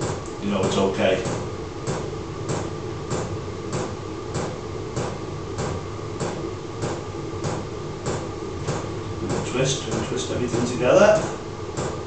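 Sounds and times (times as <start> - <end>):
heater running hum: 0.0 - 12.0.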